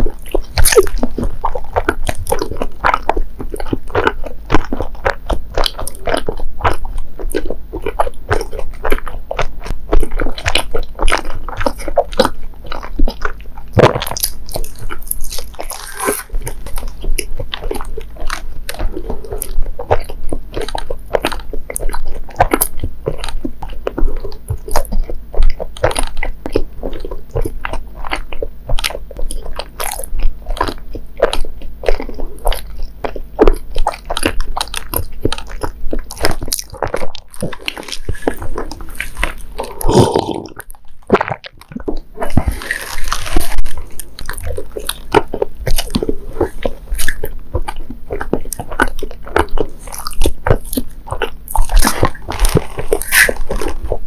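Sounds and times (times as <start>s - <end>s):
wet chewing mouth clicks: 0.0s - 54.0s.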